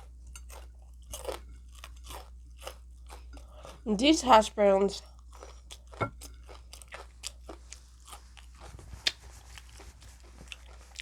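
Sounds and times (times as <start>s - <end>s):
person chewing crunchy food: 0.0s - 3.9s, 5.0s - 11.0s.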